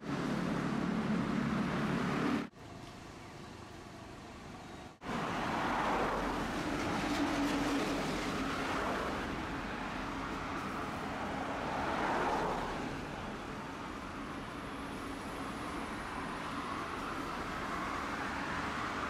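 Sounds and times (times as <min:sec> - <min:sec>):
road traffic: 0:00.0 - 0:19.0
streetcar running: 0:00.0 - 0:19.0.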